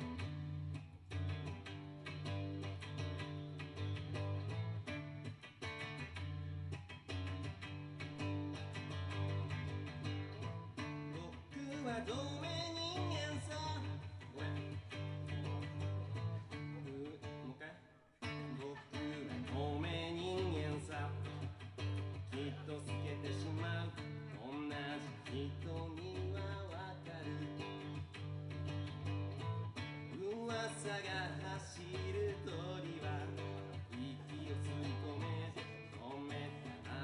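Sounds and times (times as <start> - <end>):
semi-acoustic guitar: 0.0 - 37.0.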